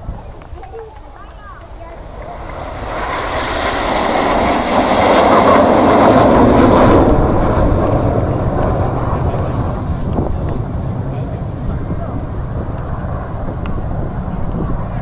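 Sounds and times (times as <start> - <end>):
jets flying past: 0.0 - 15.0
wind rumble: 0.0 - 15.0.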